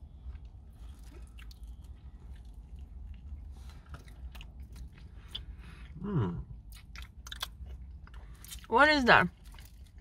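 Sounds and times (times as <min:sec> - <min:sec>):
person chewing doughnut: 0:00.0 - 0:08.7, 0:09.3 - 0:10.0.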